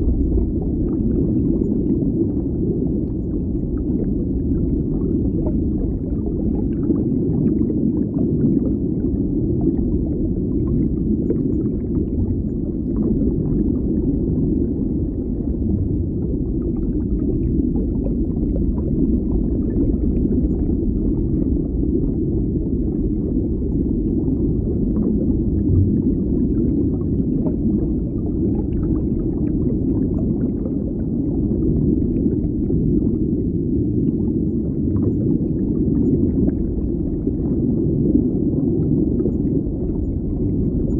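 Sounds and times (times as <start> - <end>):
underwater water rumble: 0.0 - 40.9.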